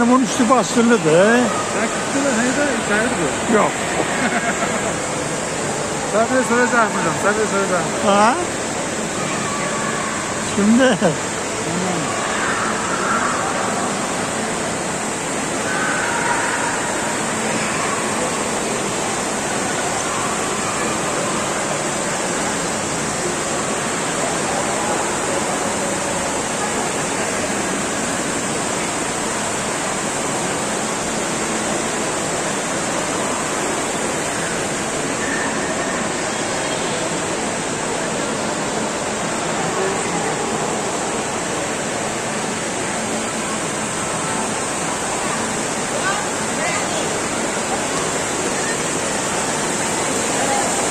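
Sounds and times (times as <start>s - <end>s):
fountain water splashing: 0.0s - 50.9s.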